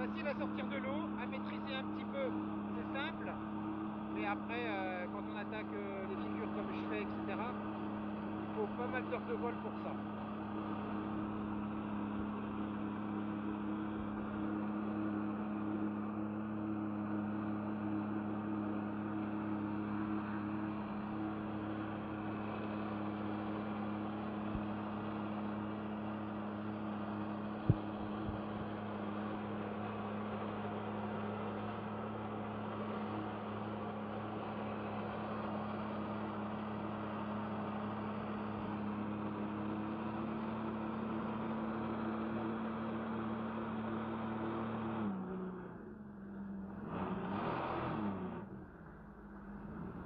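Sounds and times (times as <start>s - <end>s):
jet ski engine running: 0.0s - 47.6s.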